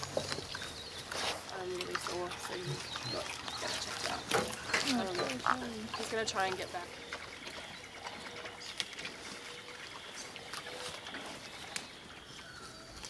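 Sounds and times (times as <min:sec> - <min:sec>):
pigs chewing with soft crunches: 0:00.0 - 0:13.0
pigs rooting in soil: 0:00.0 - 0:13.0.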